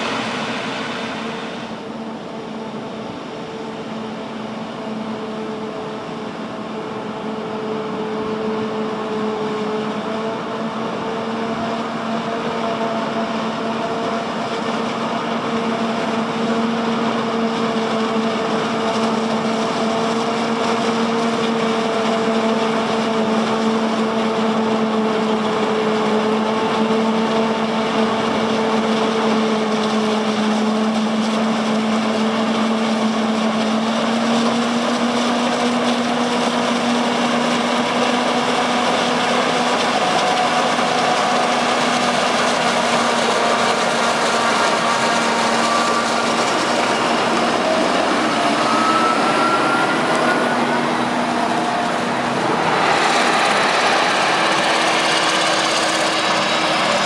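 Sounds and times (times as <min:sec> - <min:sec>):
forage harvester machine hum: 0:00.0 - 0:57.0.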